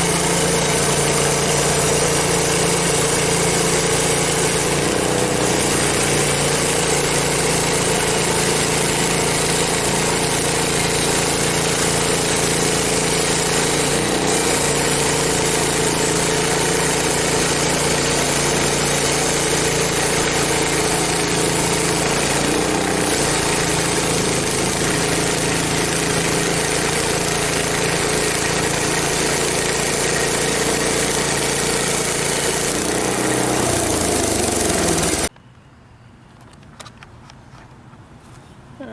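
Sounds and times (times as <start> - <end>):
saw blade cutting log: 0.0 - 35.3
sawmill engine running: 0.0 - 35.3.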